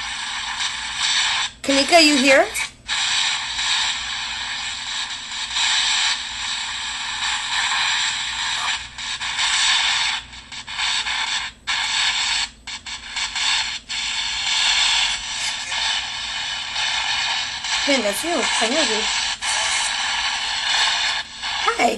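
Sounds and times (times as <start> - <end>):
static hiss: 0.0 - 21.9.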